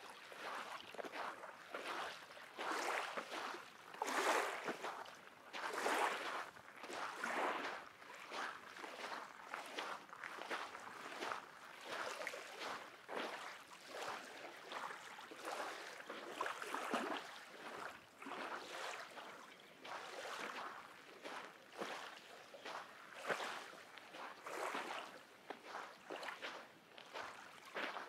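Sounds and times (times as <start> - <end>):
lake waves lapping on shore: 0.0 - 28.0.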